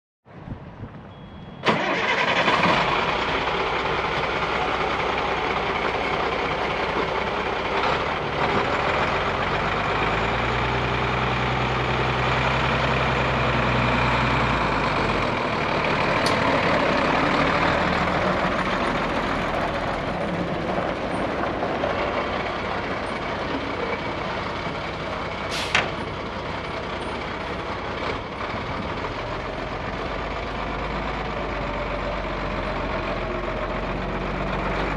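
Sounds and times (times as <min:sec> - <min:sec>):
diesel truck engine starting and idling: 0:01.5 - 0:34.9.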